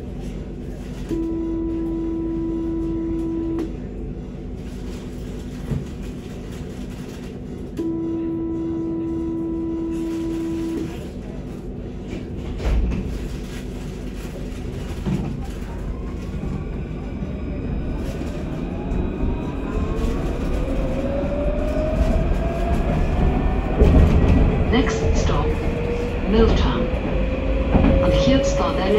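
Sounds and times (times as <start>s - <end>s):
tram wheels rumbling on rail: 0.0s - 28.9s.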